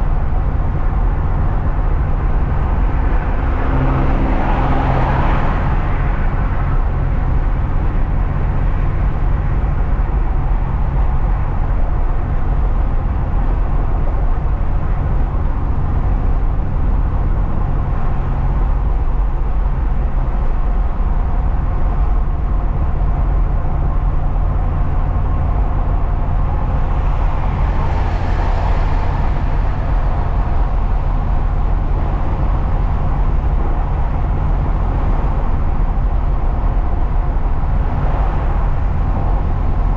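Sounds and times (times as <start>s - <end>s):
truck engine and tyre drone: 0.0s - 39.9s.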